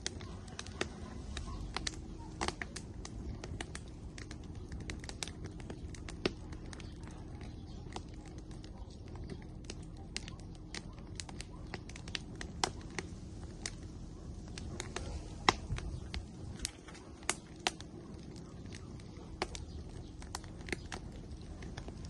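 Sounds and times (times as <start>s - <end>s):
firewood crackling and popping: 0.0s - 22.0s
low rumble of flames: 0.0s - 22.0s.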